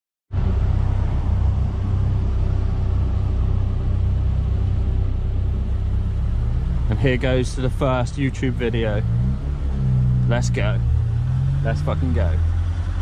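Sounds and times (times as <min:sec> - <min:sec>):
van engine and road rumble: 0:00.3 - 0:13.0.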